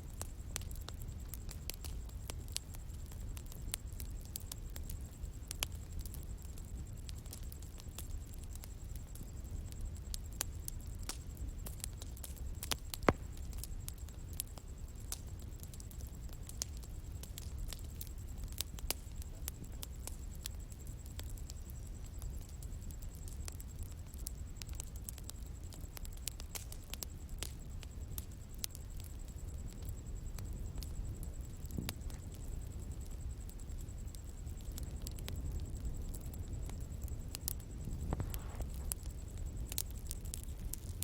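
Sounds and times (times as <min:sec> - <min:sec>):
bonfire crackling: 0:00.0 - 0:41.0.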